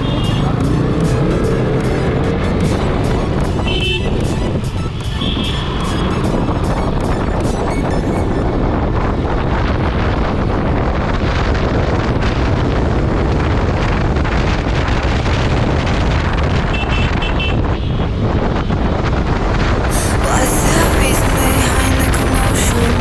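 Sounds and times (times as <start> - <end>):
wind buffeting microphone: 0.0 - 20.5
motorcycle engine and road noise: 0.0 - 23.0.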